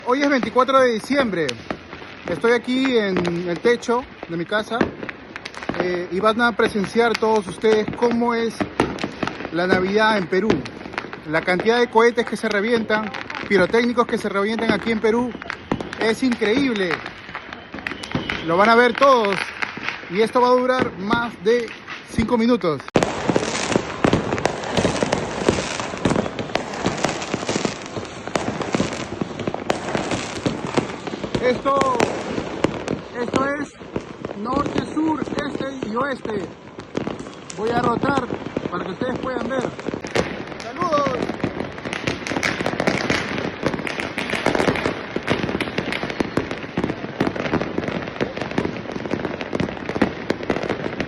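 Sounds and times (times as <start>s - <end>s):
sharp firework bangs: 0.0s - 12.1s, 12.7s - 22.3s, 22.9s - 51.0s
fireworks crackling: 0.0s - 51.0s.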